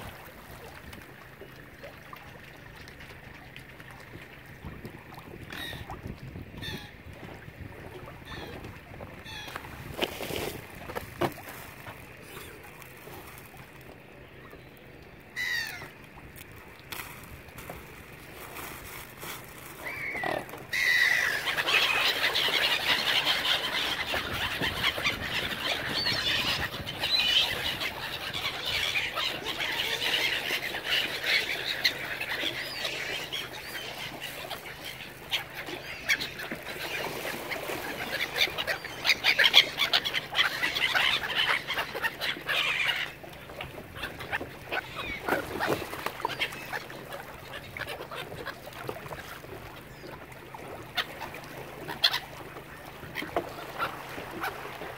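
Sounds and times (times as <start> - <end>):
waterbirds calling: 0.0 - 54.9.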